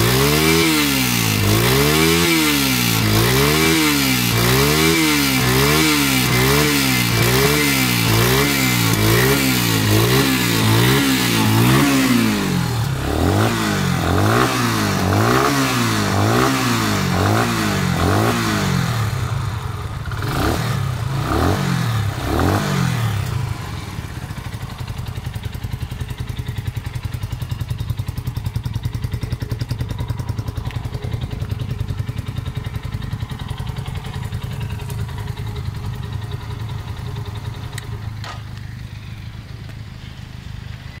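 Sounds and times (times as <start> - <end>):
motorcycle engine revving: 0.0 - 40.3
motorcycle engine idling: 0.0 - 41.0.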